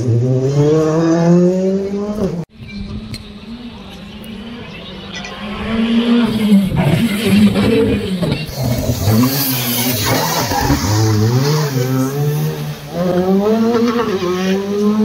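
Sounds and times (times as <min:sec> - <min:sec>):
rally car engine revving: 0:00.0 - 0:02.5, 0:04.4 - 0:15.0.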